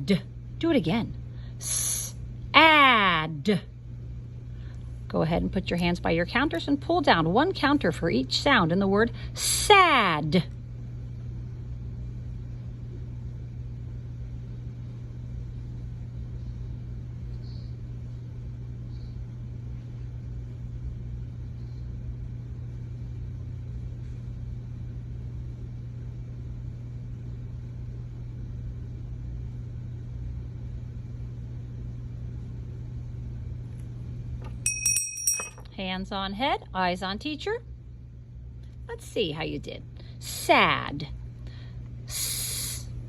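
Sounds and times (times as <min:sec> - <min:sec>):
low background hum with hiss: 0:00.0 - 0:43.0.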